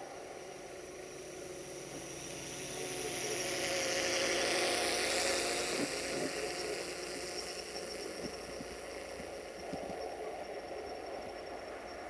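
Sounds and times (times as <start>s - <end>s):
diesel train engine drone: 0.0s - 12.0s
wheel and rail noise: 0.0s - 12.0s.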